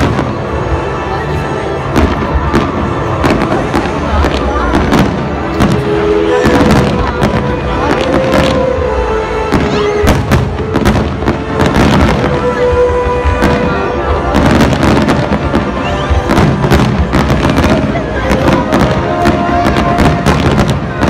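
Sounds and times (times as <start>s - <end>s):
fireworks bursting and crackling: 0.0s - 21.0s
music playing: 0.0s - 21.0s.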